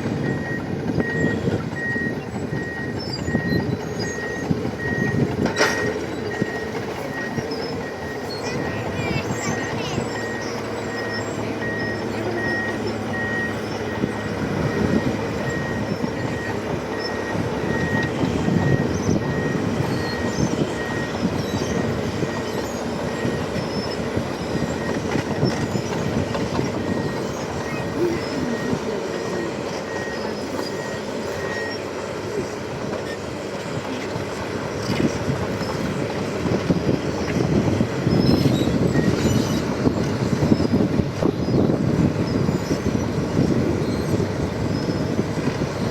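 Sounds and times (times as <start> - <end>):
bulldozer engine under load: 0.0 - 45.9
reversing alarm beeping: 0.0 - 45.9
steel tracks clanking and squealing: 0.0 - 45.9.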